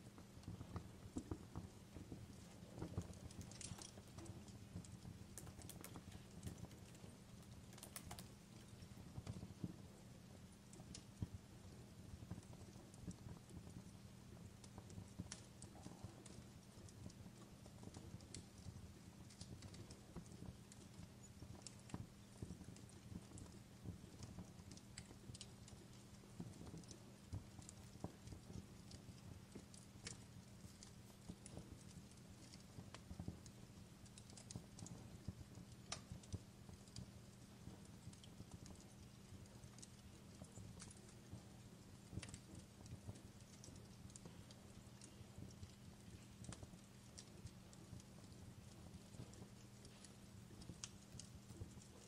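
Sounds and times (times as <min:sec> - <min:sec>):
fireplace crackling: 0:00.0 - 0:52.0
low steady hum: 0:00.0 - 0:52.0.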